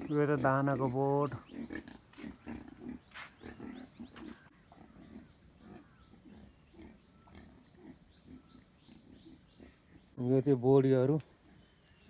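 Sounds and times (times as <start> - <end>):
animal grunting: 0.0 - 10.2
bird chirps: 0.0 - 10.2.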